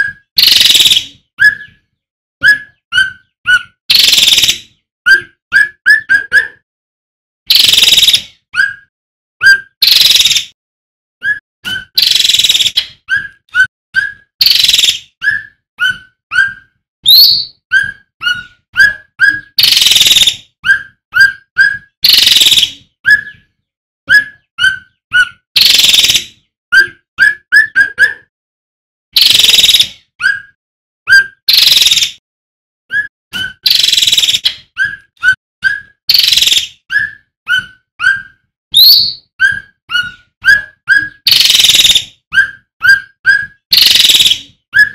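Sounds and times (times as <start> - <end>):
bird whistling and rasping: 0.0 - 6.5, 7.5 - 10.6, 11.2 - 28.2, 29.2 - 32.2, 32.9 - 44.9.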